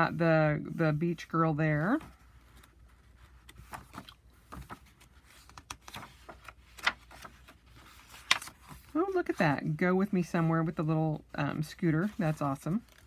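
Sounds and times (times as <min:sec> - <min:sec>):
paper pages rustling: 0:01.1 - 0:13.0.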